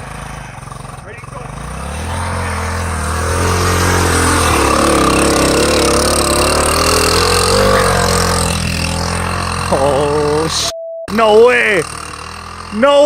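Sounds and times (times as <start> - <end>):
motorcycle engine under load: 0.0 - 13.0.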